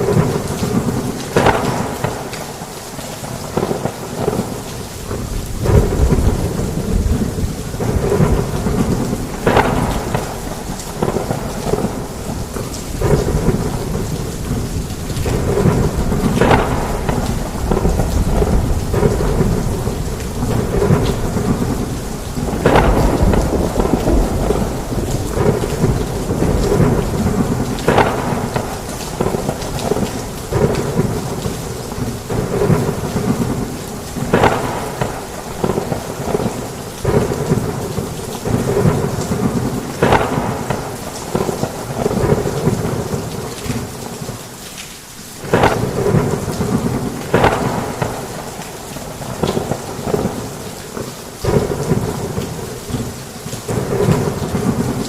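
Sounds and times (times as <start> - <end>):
low rumbling thunder: 0.0 - 43.9, 45.4 - 55.0
heavy rain on a roof: 0.0 - 55.0.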